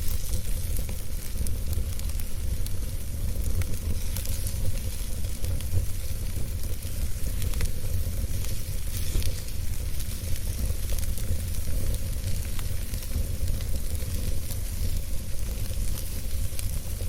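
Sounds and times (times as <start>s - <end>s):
campfire crackling and popping: 0.0s - 17.0s
fire low rumble and hiss: 0.0s - 17.0s.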